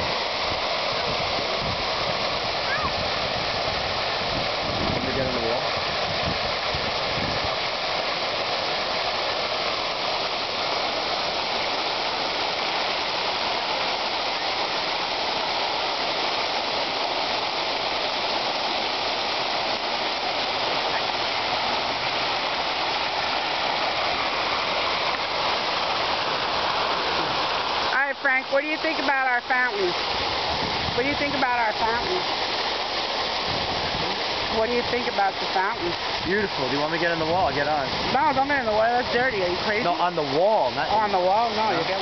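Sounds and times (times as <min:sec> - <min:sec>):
fountain water splashing: 0:00.0 - 0:42.0.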